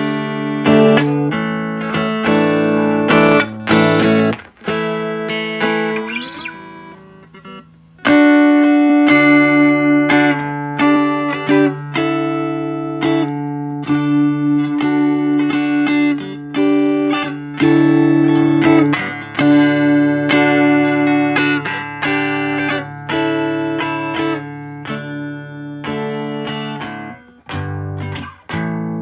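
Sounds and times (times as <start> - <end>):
electric guitar chords: 0.0 - 29.0.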